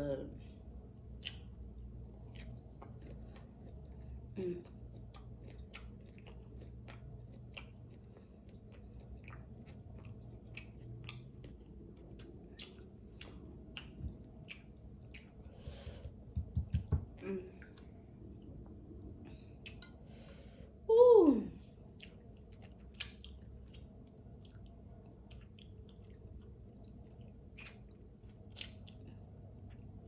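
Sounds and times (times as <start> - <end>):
person chewing food: 1.1 - 20.6, 21.8 - 30.0.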